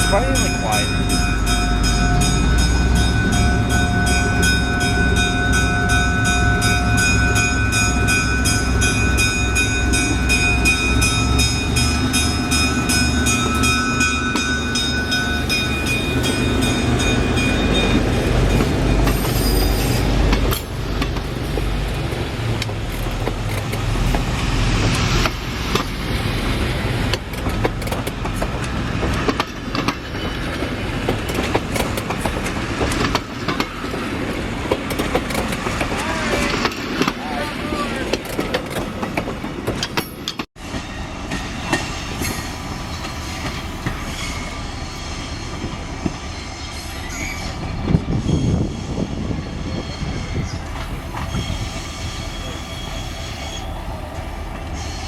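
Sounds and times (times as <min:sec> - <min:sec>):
train clattering on track: 0:00.0 - 0:55.0.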